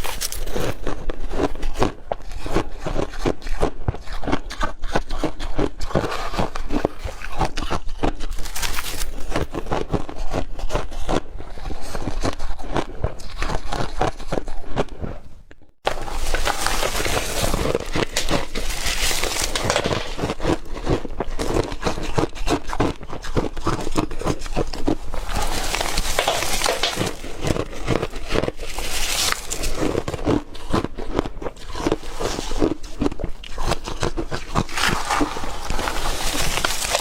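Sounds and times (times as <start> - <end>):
ice being chewed: 0.0 - 37.0.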